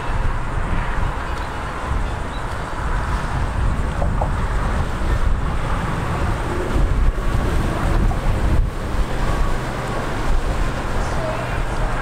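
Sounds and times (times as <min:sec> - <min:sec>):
motorboats droning: 0:00.0 - 0:12.0
wind buffeting microphone: 0:00.0 - 0:12.0.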